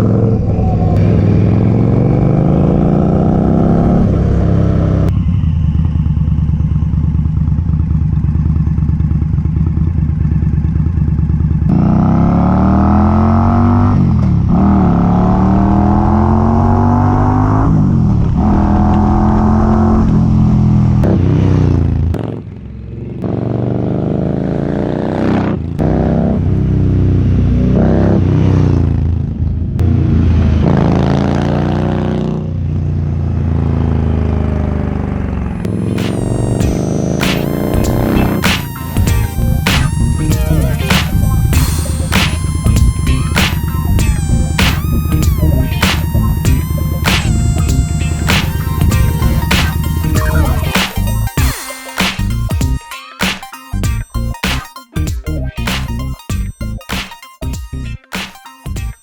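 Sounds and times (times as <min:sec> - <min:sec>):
motorcycle engine accelerating: 0:00.0 - 0:51.5.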